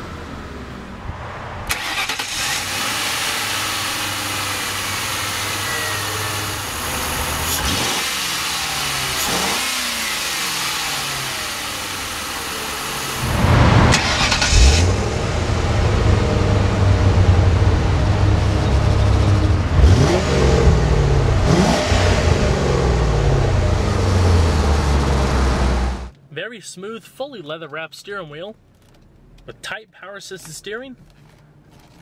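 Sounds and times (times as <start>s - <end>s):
car engine revving: 0.0s - 26.1s.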